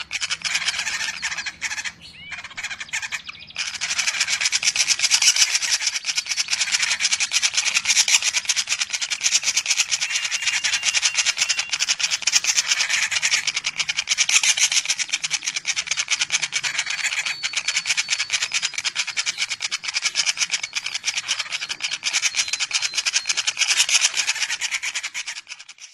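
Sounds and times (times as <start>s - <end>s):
nestlings begging chatter: 0.0s - 25.9s.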